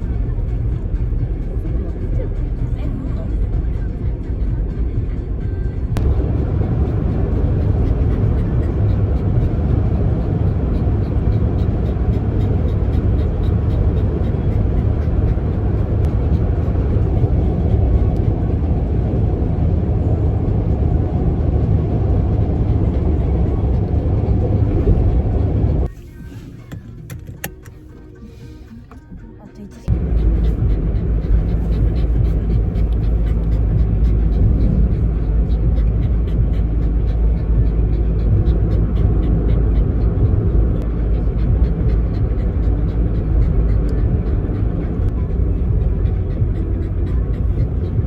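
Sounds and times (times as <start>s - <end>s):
car road and engine rumble: 0.0s - 48.0s.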